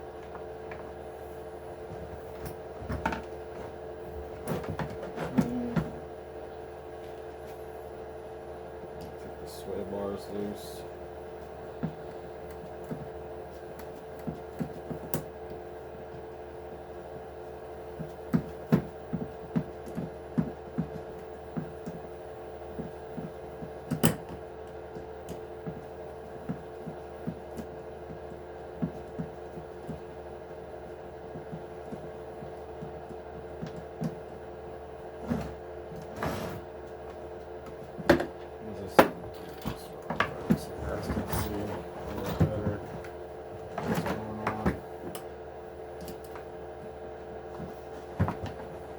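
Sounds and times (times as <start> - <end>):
steady room hum: 0.0 - 48.9.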